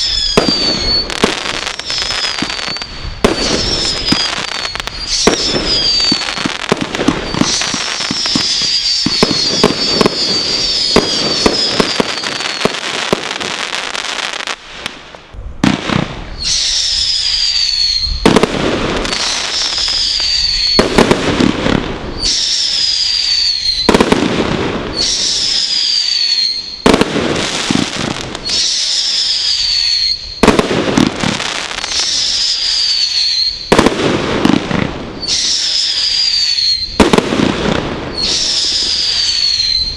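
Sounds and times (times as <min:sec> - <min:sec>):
falling firework whistle: 0:00.0 - 0:14.9, 0:15.6 - 0:39.9
firework shots: 0:00.0 - 0:39.9
fireworks crackling and popping: 0:00.0 - 0:39.9.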